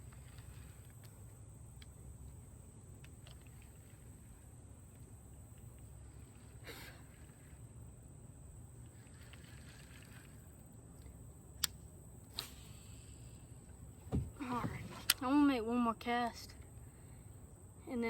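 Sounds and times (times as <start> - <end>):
thin high hum: 0.0 - 18.0.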